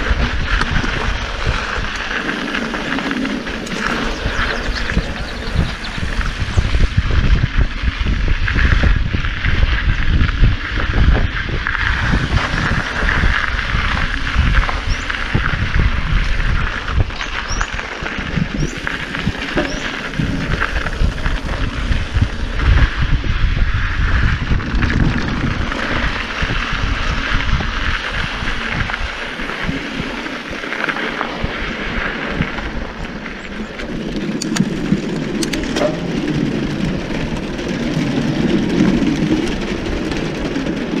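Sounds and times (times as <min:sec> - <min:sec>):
bike rattling: 0:00.0 - 0:41.0
bike tyres rolling over gravel: 0:00.0 - 0:41.0
tyres on wooden boardwalk: 0:00.0 - 0:41.0
wind buffeting microphone: 0:00.0 - 0:41.0.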